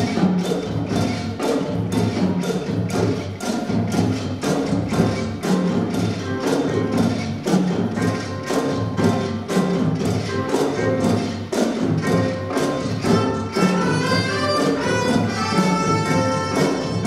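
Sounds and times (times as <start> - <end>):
regular drum strokes: 0.0 - 17.0
student ensemble playing: 0.0 - 17.0.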